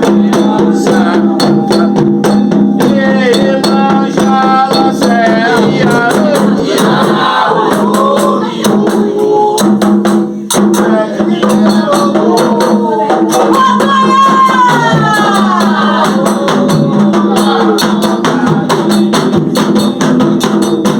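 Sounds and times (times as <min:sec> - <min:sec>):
voices singing: 0:00.0 - 0:19.9
rhythmic percussion: 0:00.0 - 0:20.9.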